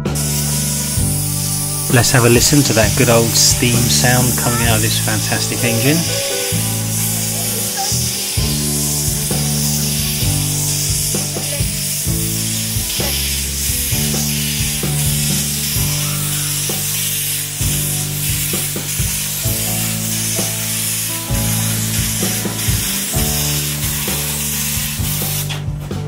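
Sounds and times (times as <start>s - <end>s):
steam locomotive hissing steam: 0.0s - 25.6s
background music: 0.0s - 26.0s.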